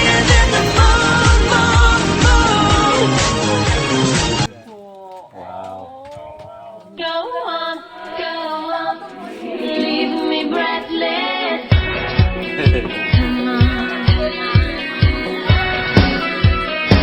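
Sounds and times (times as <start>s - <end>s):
pop song with layered vocals: 0.0s - 4.5s, 6.3s - 17.0s.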